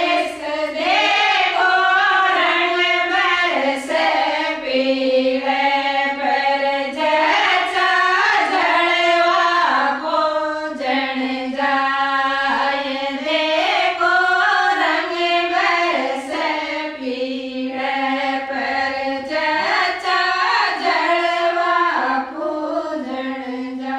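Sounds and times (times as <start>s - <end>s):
women singing unaccompanied: 0.0s - 23.9s.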